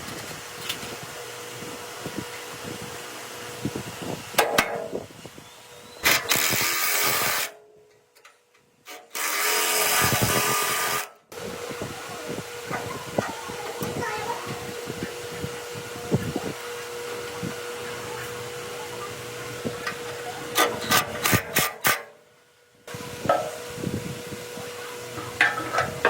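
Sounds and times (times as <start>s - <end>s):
power tool running: 0.0s - 7.6s, 8.9s - 22.2s, 22.9s - 26.0s.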